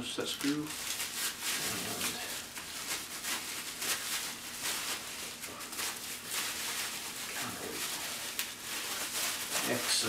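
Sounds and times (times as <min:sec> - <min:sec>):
plastic bag crinkling: 0:00.2 - 0:10.0.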